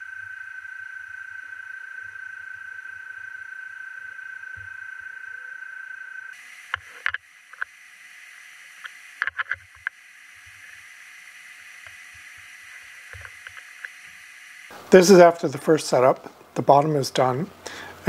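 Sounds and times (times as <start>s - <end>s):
mill spindle high whine: 0.0s - 15.4s.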